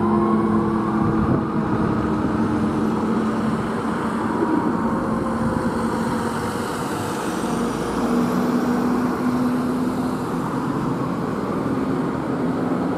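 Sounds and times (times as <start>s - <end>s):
road traffic noise: 0.0s - 12.9s.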